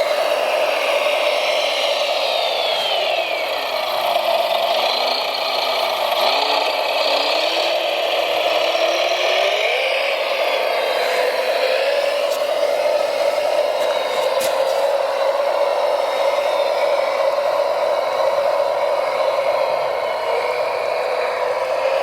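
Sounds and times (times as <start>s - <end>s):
toy vehicle motors whirring: 0.0s - 22.0s.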